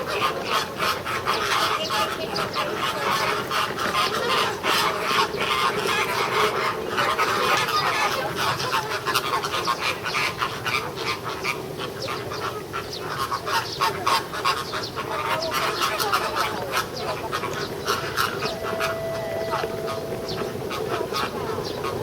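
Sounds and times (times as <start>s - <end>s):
flamingos honking and gabbling: 0.0s - 22.0s.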